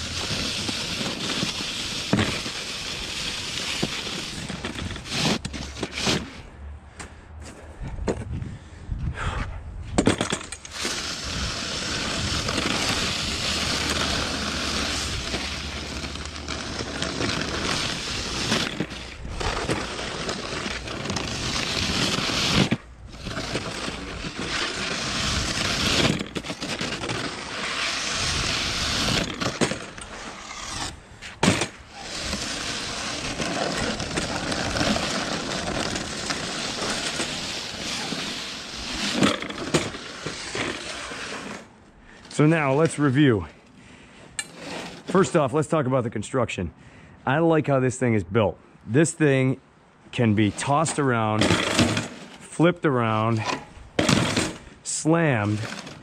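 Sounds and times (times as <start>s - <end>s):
plastic blade scraping snow on concrete: 0.0s - 6.5s, 10.0s - 43.5s, 44.4s - 45.8s, 50.2s - 56.0s.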